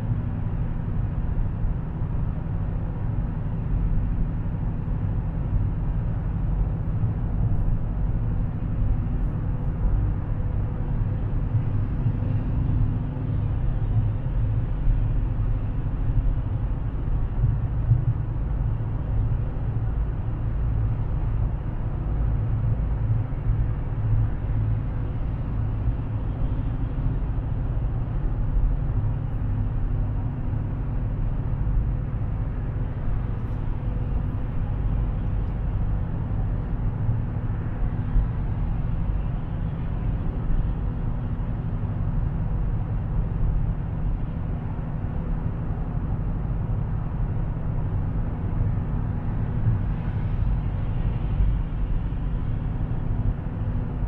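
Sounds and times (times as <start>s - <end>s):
car engine drone: 0.0s - 54.0s
tire rumble: 0.0s - 54.0s.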